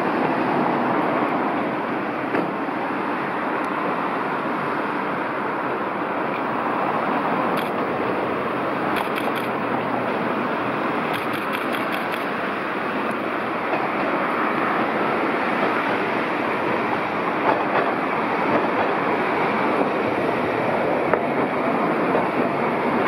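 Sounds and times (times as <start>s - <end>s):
road traffic: 0.0s - 23.0s
streetcar wheels on rail: 0.0s - 23.0s.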